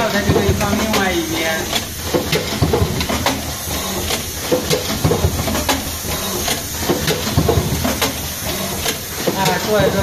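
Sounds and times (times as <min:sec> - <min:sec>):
stamping machine clacking: 0:00.0 - 0:10.0.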